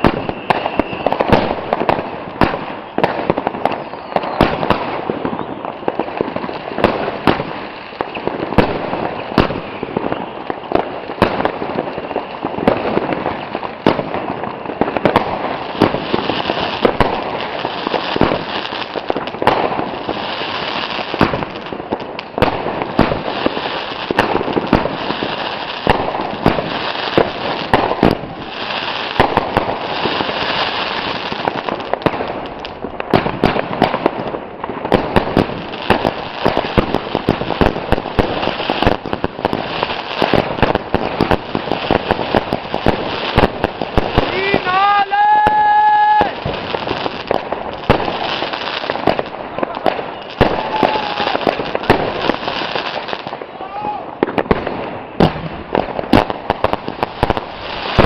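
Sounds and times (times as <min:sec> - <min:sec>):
fireworks banging: 0:00.0 - 0:58.0
fireworks crackling: 0:00.0 - 0:58.0.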